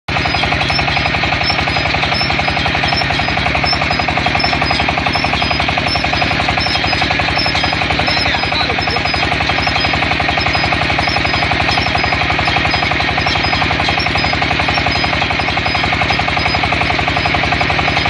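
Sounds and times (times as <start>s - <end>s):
drilling rig pounding: 0.1s - 18.0s.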